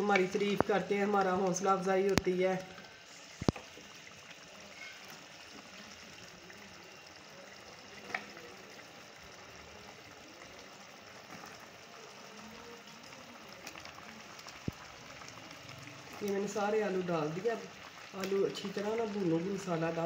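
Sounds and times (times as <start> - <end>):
sauce bubbling and sizzling: 0.0 - 20.0.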